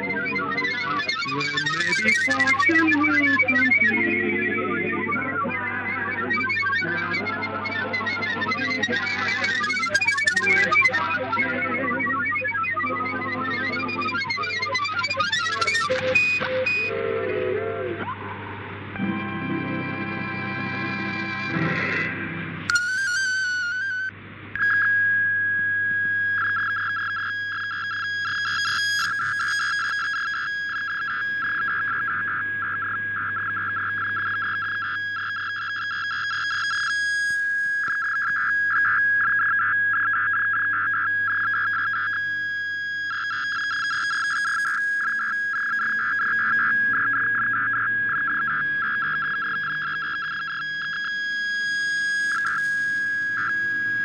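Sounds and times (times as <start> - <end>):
stuttering keyed radio tone: 0.0 - 54.0.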